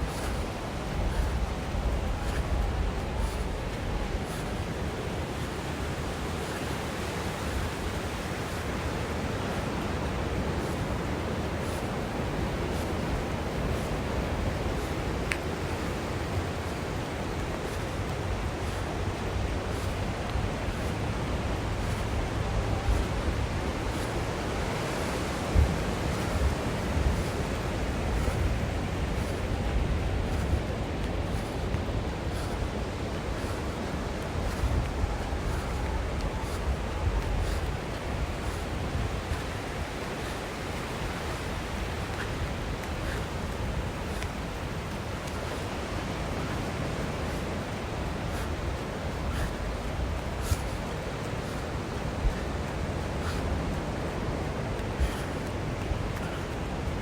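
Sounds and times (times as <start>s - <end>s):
ocean surf breaking: 0.0s - 57.0s
wind on microphone: 0.0s - 57.0s.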